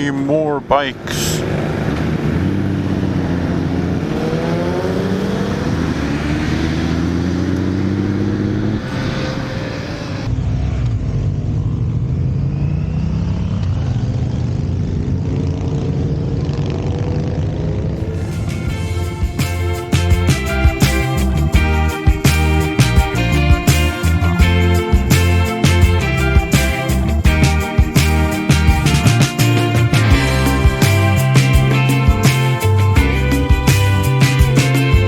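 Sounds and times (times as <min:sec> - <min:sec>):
motorcycle engines running: 0:00.0 - 0:35.0
motorcycle accelerating: 0:00.7 - 0:35.0.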